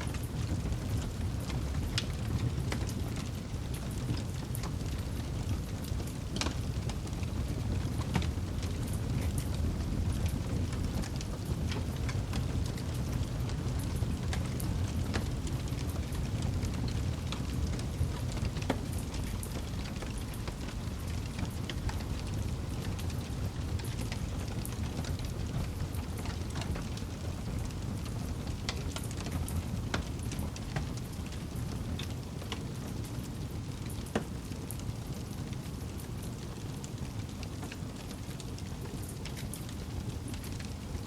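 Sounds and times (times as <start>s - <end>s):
campfire crackling and popping: 0.0s - 41.0s
fire low rumble: 0.0s - 41.0s.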